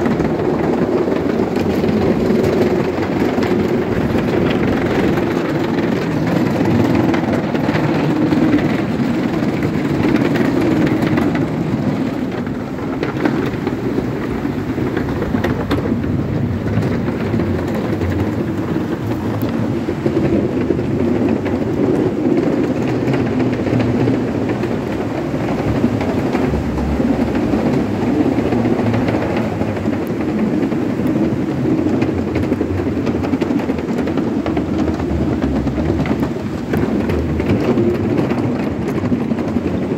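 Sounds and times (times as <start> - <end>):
skateboard rolling on wooden boards: 0.0 - 39.9.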